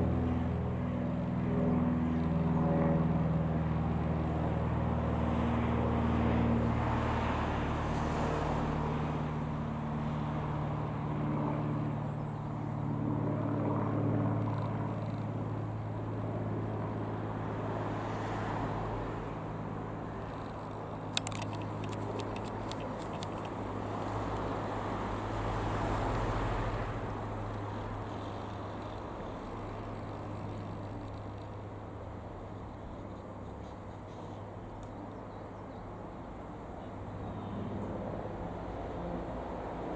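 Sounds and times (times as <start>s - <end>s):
propeller plane droning: 0.0s - 39.9s.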